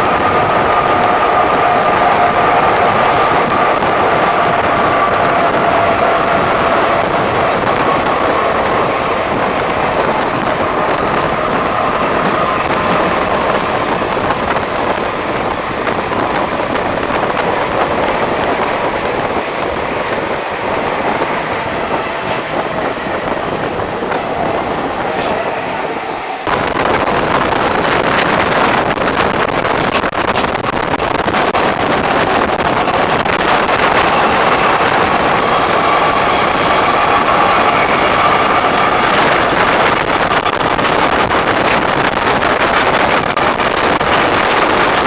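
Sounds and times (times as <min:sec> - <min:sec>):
electric train rumbling on rails: 0:00.0 - 0:45.0.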